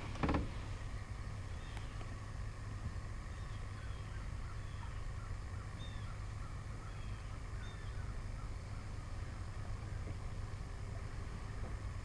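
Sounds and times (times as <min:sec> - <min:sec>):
birds chirping: 0:00.0 - 0:11.1
steady low rumble: 0:00.0 - 0:12.0.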